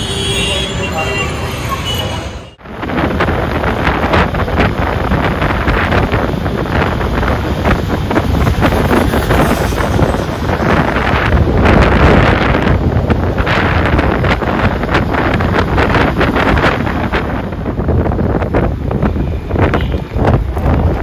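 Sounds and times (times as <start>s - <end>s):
wind buffeting microphone: 2.6s - 21.0s.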